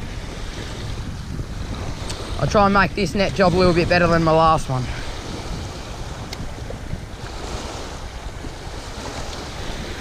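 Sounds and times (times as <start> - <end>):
waves washing over pebbles: 0.0 - 10.0
wind buffeting microphone: 0.0 - 10.0.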